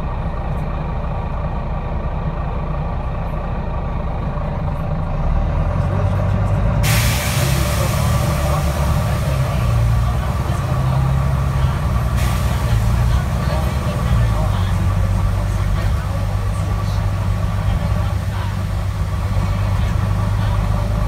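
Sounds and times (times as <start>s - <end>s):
bus diesel engine hum: 0.0s - 21.0s.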